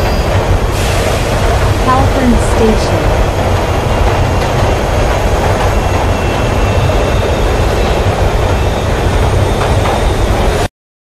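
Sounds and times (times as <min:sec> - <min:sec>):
train wheels rumbling on rails: 0:00.0 - 0:10.7.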